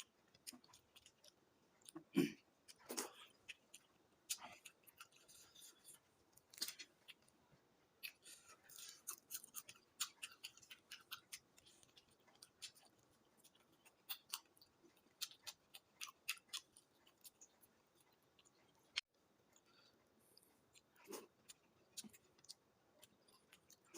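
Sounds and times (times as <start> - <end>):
chewing and mouth smacks: 0.0 - 7.4, 8.0 - 23.9.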